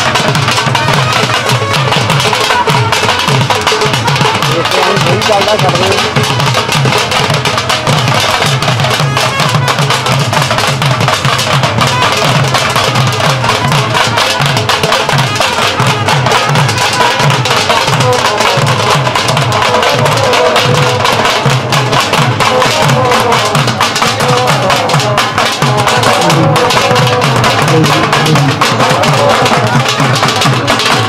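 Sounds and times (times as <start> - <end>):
dhol drums playing a driving rhythm: 0.0 - 31.0.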